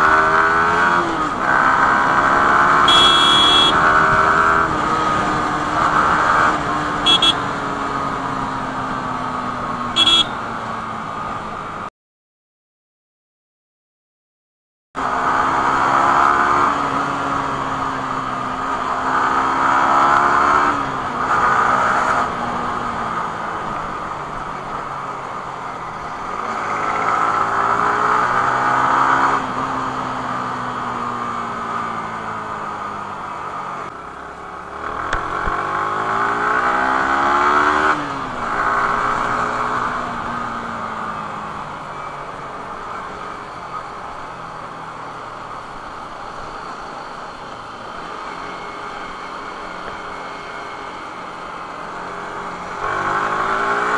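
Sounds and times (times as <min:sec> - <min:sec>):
motorcycle engine revving: 0:00.0 - 0:10.4, 0:15.0 - 0:53.9.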